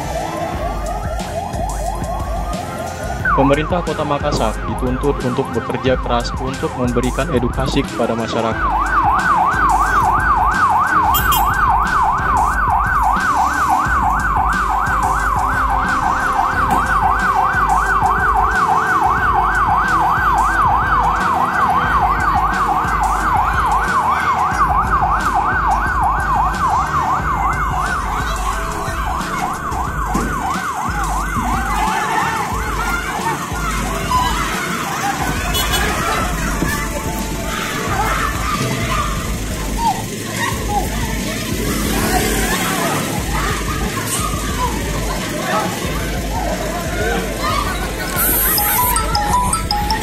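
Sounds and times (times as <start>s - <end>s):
electronic siren yelping: 0.0s - 5.8s, 8.2s - 41.0s, 41.7s - 50.0s.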